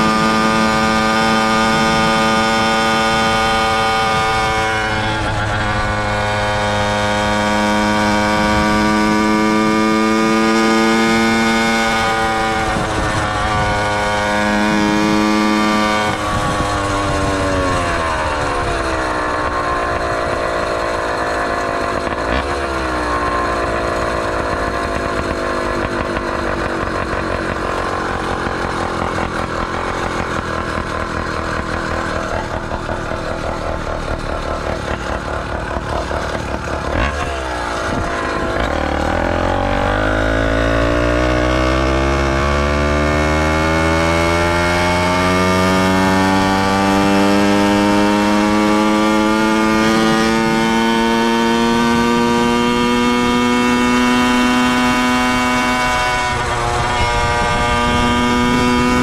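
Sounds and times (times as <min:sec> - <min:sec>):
motorized bike engine: 0:00.0 - 0:59.0.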